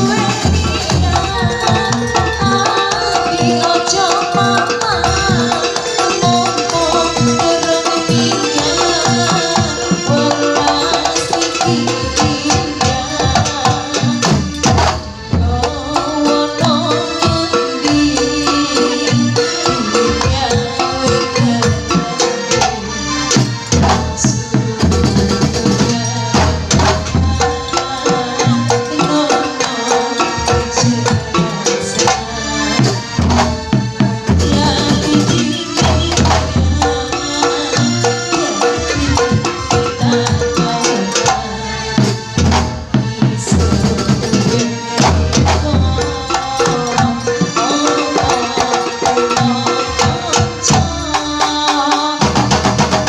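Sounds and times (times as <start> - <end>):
pitched melody: 0.0 - 51.6
frame drums beating: 0.0 - 53.0.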